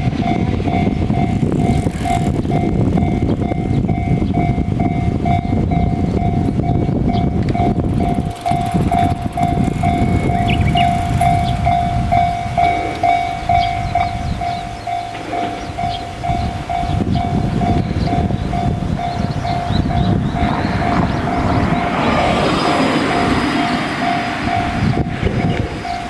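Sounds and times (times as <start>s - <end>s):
railway crossing alarm dinging: 0.0s - 26.0s
train rumbling past: 0.0s - 26.0s.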